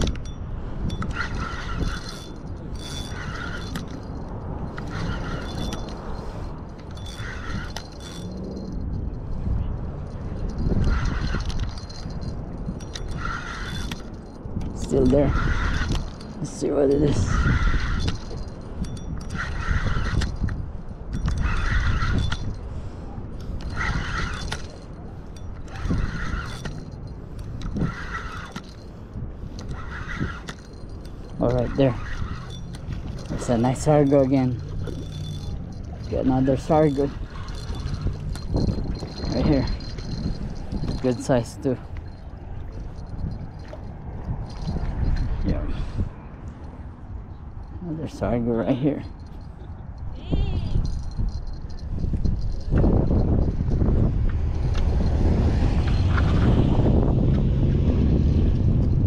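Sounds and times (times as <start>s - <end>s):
fishing reel gears whirring: 0.0s - 57.3s
steady low rumble: 0.0s - 59.0s.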